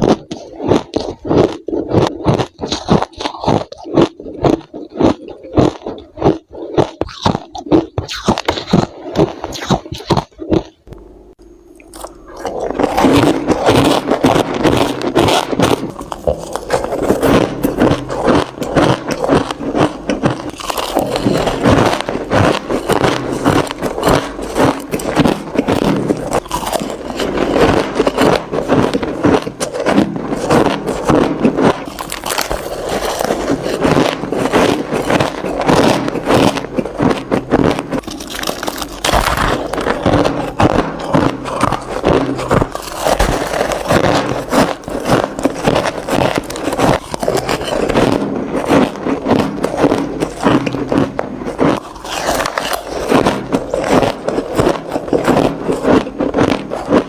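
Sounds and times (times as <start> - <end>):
crunching ice being chewed: 0.0 - 57.0.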